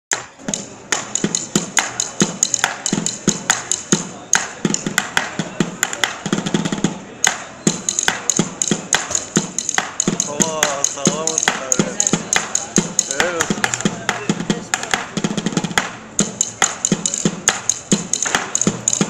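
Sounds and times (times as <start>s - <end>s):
drumming on bucket and pavement: 0.1s - 19.0s.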